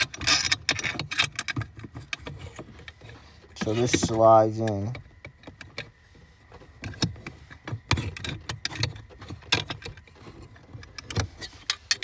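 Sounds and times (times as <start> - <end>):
car parts clicking and knocking: 0.0 - 12.0.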